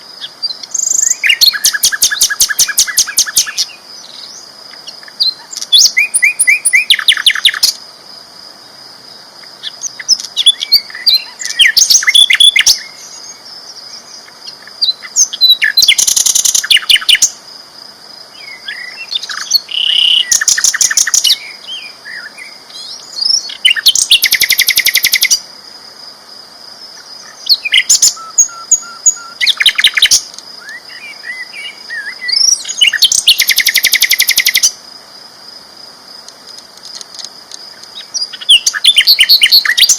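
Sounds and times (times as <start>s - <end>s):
bird chirps: 0.0s - 7.8s, 9.6s - 17.4s, 18.4s - 25.4s, 27.0s - 34.8s, 37.7s - 39.9s.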